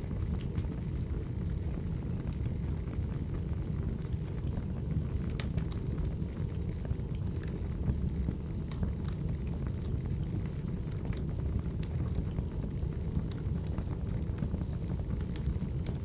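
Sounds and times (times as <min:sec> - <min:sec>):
firewood burning and crackling: 0:00.0 - 0:16.0.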